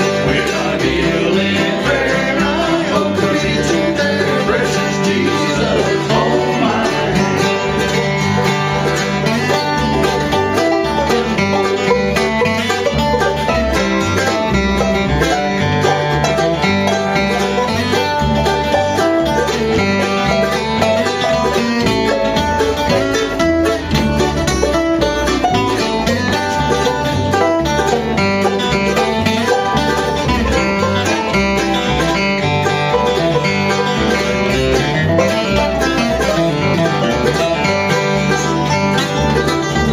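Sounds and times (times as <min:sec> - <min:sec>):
banjo picking: 0:00.0 - 0:39.9
bass line: 0:00.0 - 0:39.9
guitar picking: 0:00.0 - 0:39.9.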